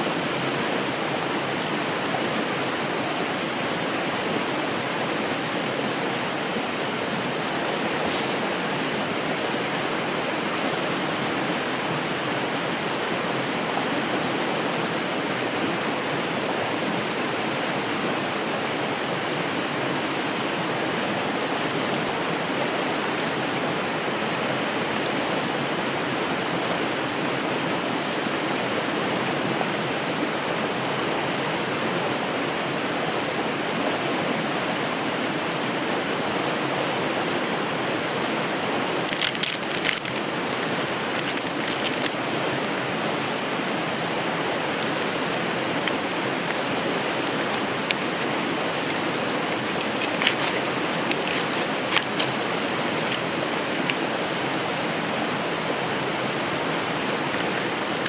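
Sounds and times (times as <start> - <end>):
mountain river rushing: 0.0 - 58.0.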